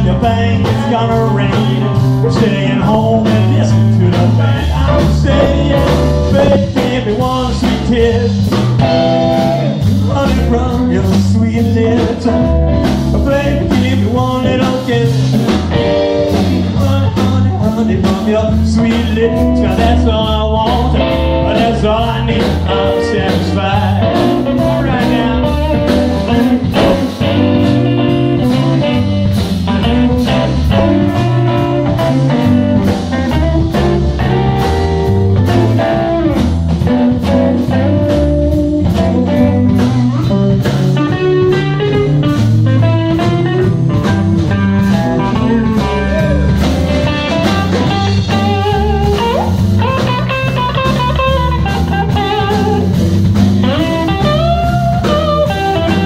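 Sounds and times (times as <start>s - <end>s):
drum kit steady beat: 0.0s - 56.0s
electric guitars: 0.0s - 56.0s
lead guitar melody: 0.0s - 56.0s.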